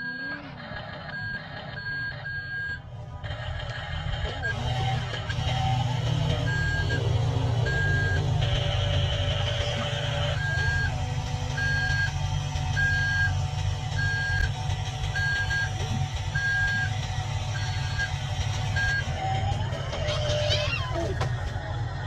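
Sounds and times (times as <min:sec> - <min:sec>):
truck reversing beeper: 0:00.0 - 0:19.6
low engine rumble: 0:00.2 - 0:22.0.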